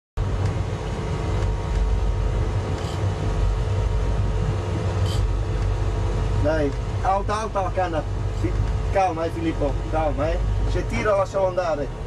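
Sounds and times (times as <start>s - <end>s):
boat engine rumbling: 0.2s - 12.0s
faint steady hum: 0.2s - 12.0s.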